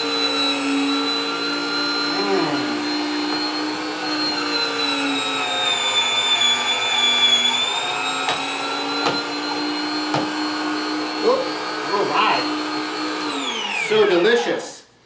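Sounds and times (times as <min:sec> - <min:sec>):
electric motor whine: 0:00.0 - 0:14.2.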